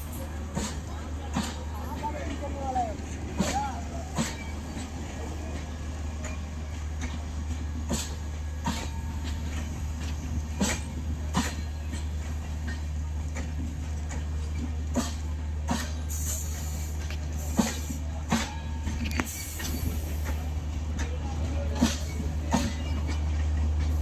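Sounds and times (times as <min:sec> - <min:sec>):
train coaches rumbling by: 0:00.0 - 0:24.0
train wheels clicking over rail joints: 0:00.0 - 0:24.0.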